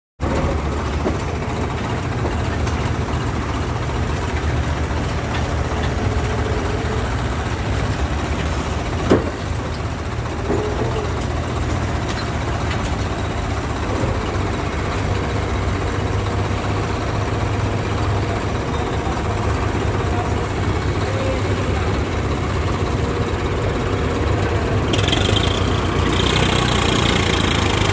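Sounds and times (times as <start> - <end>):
diesel machinery running: 0.2 - 27.9.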